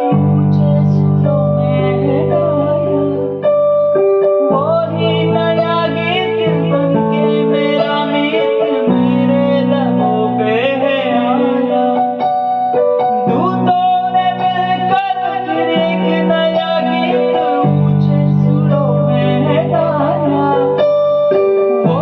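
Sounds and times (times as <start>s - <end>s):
worship song on electric keyboard: 0.0s - 22.0s.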